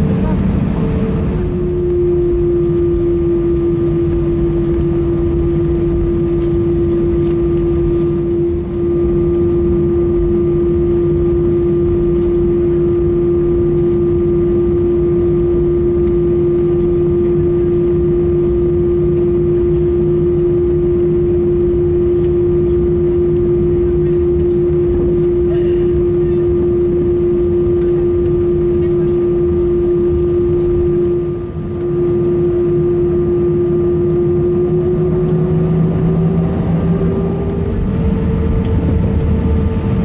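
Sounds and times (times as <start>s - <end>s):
jet engine drone in cabin: 0.0s - 40.0s.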